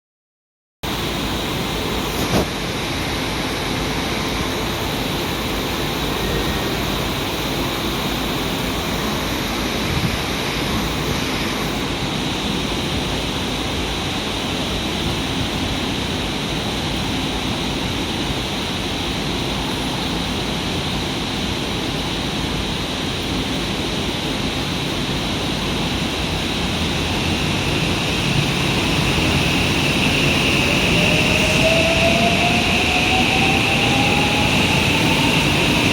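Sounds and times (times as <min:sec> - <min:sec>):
electric train hiss and hum: 0:00.8 - 0:35.9.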